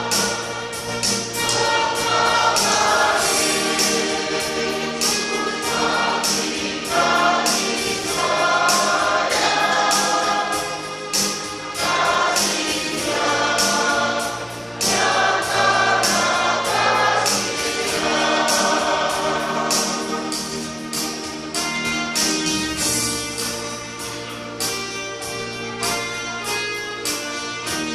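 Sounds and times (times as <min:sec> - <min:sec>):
church choir singing: 0:00.0 - 0:24.6.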